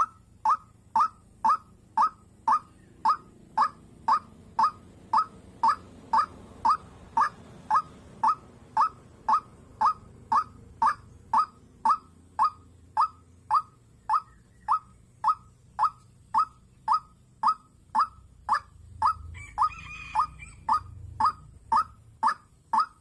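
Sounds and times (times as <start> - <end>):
waterhen call sharp notes: 0.0 - 23.0.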